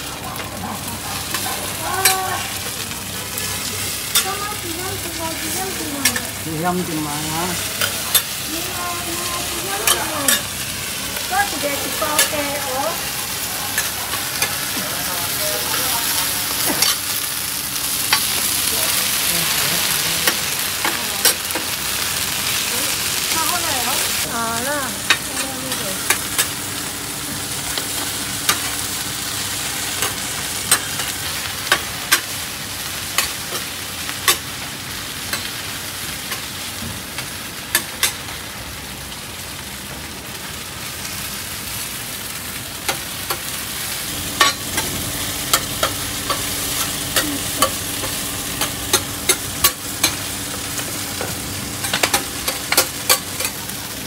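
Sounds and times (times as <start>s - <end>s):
omelette sizzling in a pan: 0.2s - 54.0s.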